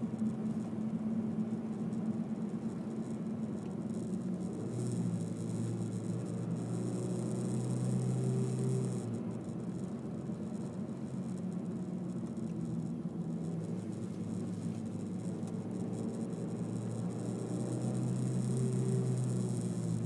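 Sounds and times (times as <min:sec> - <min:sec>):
car engine running: 0:00.0 - 0:20.0
road noise: 0:00.0 - 0:20.0.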